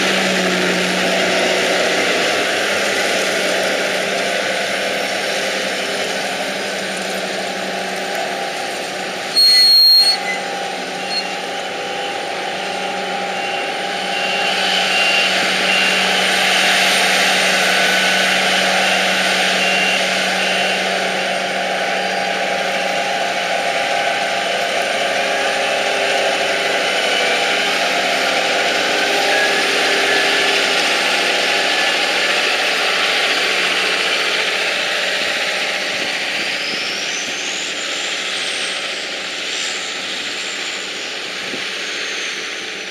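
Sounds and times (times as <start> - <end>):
diesel machinery engines running: 0.0 - 42.9.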